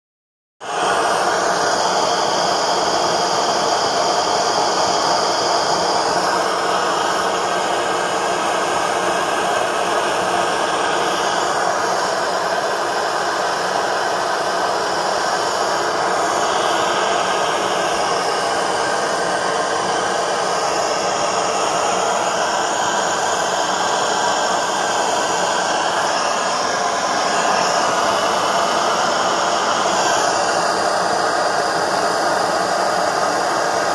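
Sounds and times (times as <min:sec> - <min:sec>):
gas burner flame hissing: 0:00.6 - 0:33.9.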